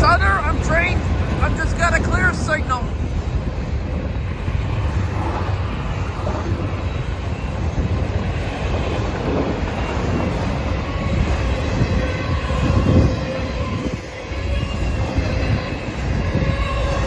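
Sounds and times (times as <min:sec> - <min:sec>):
freight train wheels on rail: 0:00.0 - 0:17.0.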